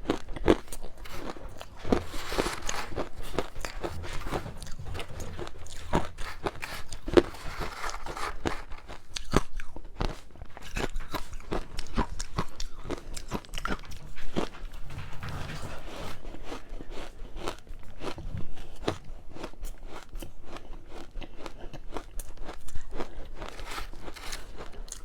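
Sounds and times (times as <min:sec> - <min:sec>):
chewing ice crunches: 0:00.0 - 0:14.1, 0:16.3 - 0:25.0.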